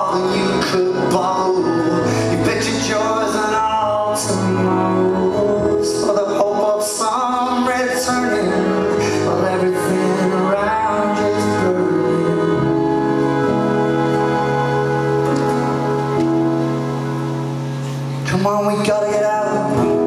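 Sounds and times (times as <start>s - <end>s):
man singing: 0.0s - 14.9s, 18.2s - 20.0s
drums: 0.0s - 20.0s
electric guitar: 0.0s - 20.0s.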